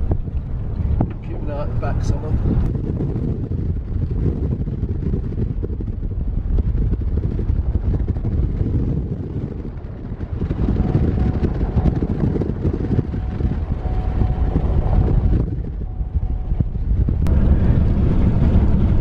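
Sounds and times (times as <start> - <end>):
vehicle road and wind noise: 0.0 - 19.0.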